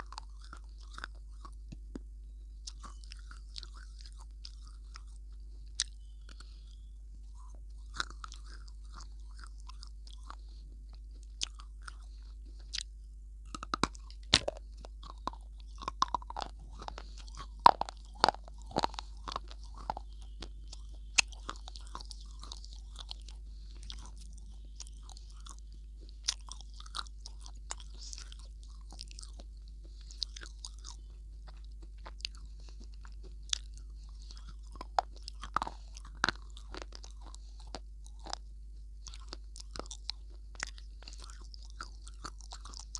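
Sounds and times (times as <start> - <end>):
biting and chewing crunches: 0.0 - 42.9.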